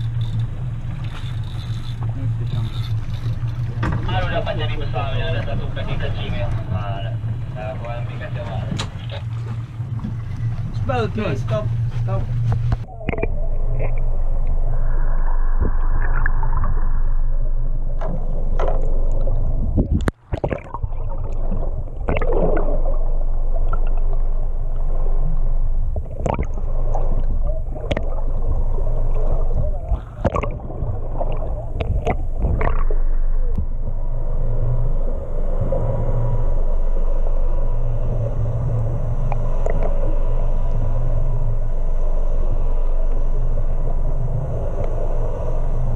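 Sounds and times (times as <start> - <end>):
boat engine running: 0.0 - 45.9
water splashing against hull: 0.0 - 45.9.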